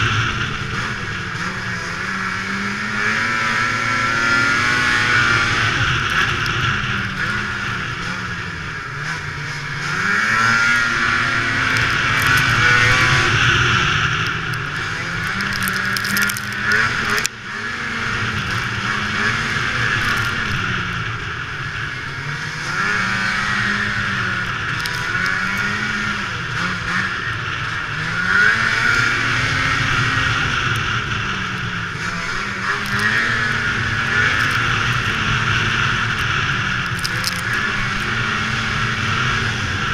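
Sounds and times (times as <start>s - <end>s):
snowmobile two-stroke engine: 0.0s - 39.9s
wind and track noise: 0.0s - 39.9s.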